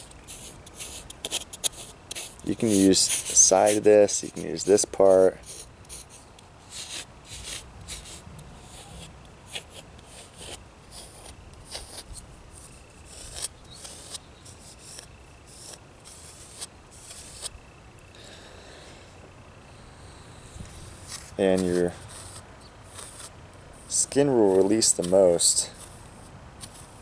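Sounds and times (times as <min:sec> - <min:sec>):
scraper scraping oiled skin: 0:00.0 - 0:17.5, 0:20.6 - 0:27.0.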